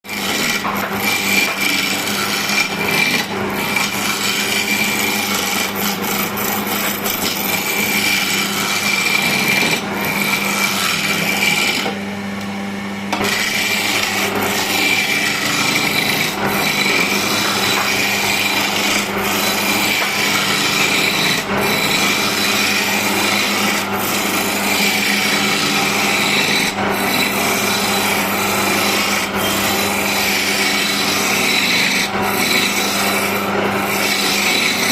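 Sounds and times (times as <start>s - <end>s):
turning tool scraping wood: 0.0s - 12.0s, 13.1s - 34.9s
lathe motor hum: 0.1s - 34.9s.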